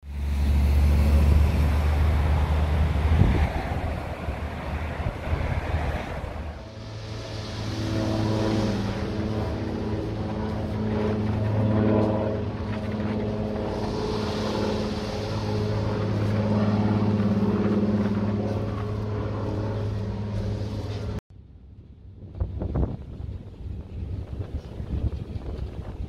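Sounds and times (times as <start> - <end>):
propeller plane engine droning: 0.0 - 26.0
wind on microphone: 0.4 - 21.2, 22.1 - 26.0.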